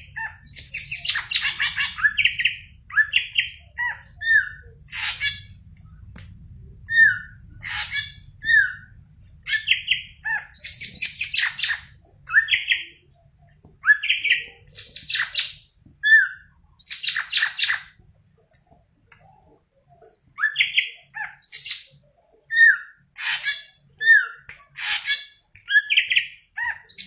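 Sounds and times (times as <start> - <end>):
bird singing chirps and trills: 0.0 - 18.5, 19.2 - 27.0.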